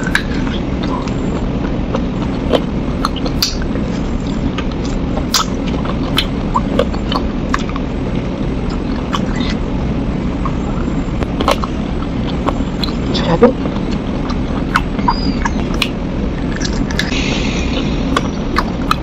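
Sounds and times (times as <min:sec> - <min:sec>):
close-miked eating sounds: 0:00.0 - 0:19.0
steady low hum: 0:00.0 - 0:19.0.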